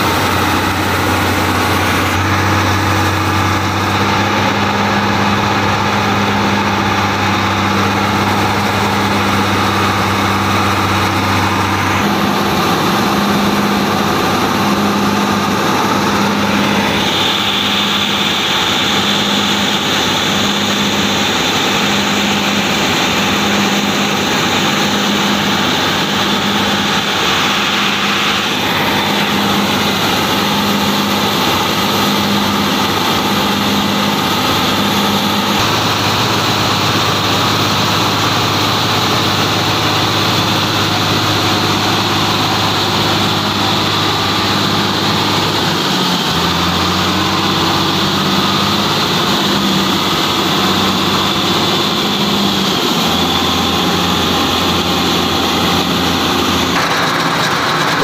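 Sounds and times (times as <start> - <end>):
combine harvester machinery drone: 0.0 - 58.0.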